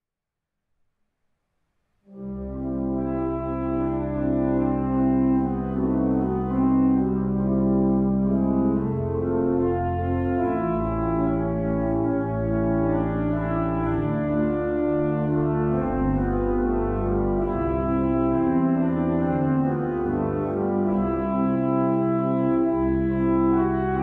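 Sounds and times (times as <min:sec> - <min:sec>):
pipe organ playing slow chords: 0:02.1 - 0:24.0.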